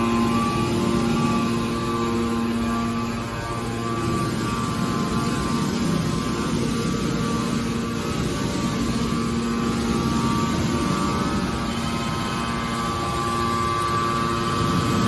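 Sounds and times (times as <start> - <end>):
hydraulic power unit humming: 0.0 - 15.0.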